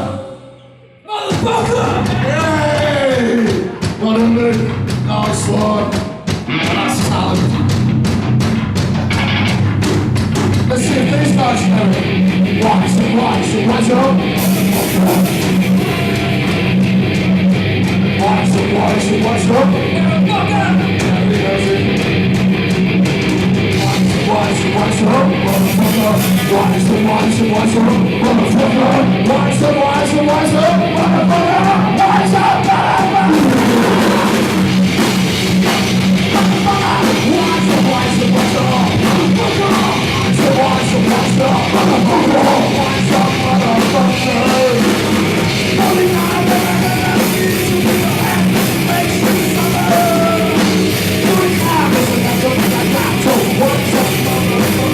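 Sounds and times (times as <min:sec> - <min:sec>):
distorted electric guitar: 0:00.0 - 0:54.9
drum kit: 0:01.1 - 0:54.9.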